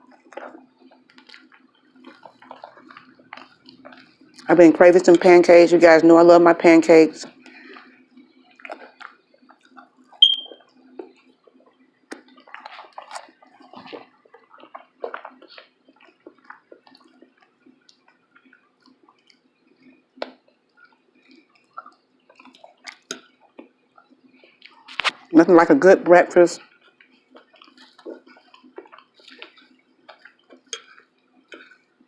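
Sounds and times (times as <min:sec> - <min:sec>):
chewing and wet mouth smacking: 0:00.0 - 0:05.3, 0:07.3 - 0:25.3, 0:26.6 - 0:32.0.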